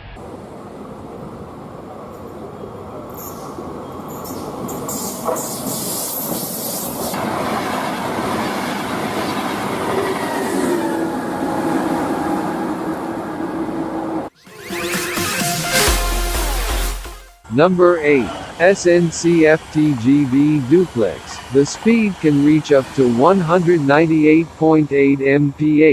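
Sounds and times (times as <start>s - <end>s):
high-speed train rushing on rails: 0.0s - 14.4s, 17.4s - 25.9s.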